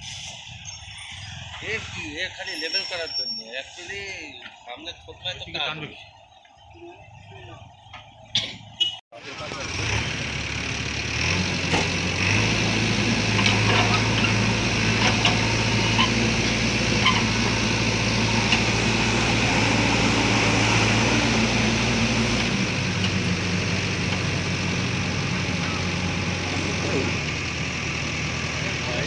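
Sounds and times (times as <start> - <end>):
diesel truck engine running: 3.7 - 29.0.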